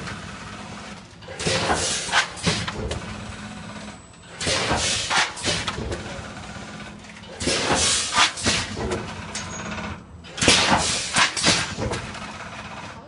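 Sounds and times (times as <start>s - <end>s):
packing machine clattering: 0.9s - 13.0s.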